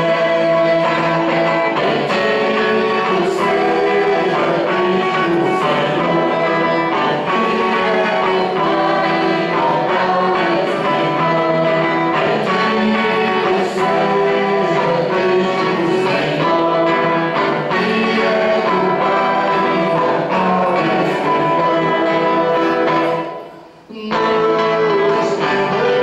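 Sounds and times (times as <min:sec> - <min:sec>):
strummed guitar: 0:00.0 - 0:26.0
voices singing a hymn: 0:00.0 - 0:26.0.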